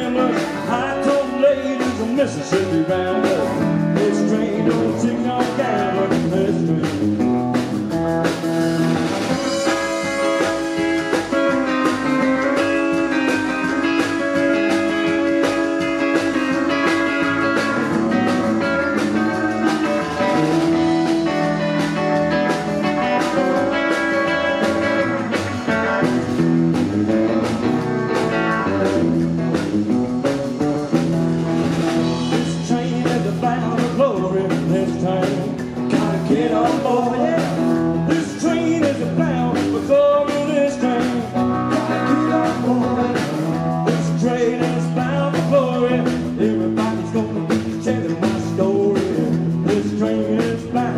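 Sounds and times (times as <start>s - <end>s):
drum kit steady beat: 0.0s - 50.9s
electric guitar: 0.0s - 50.9s
upright double bass: 0.0s - 50.9s.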